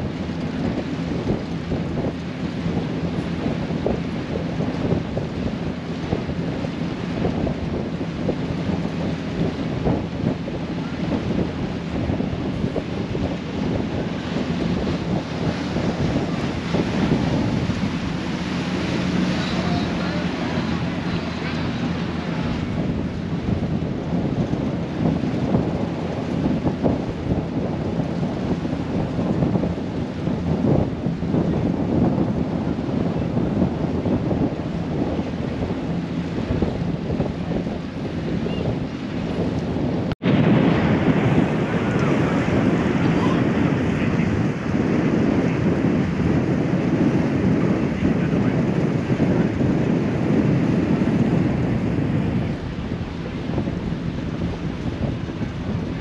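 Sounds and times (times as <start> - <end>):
boat moving through water: 0.0 - 56.0
wind buffeting microphone: 0.0 - 56.0.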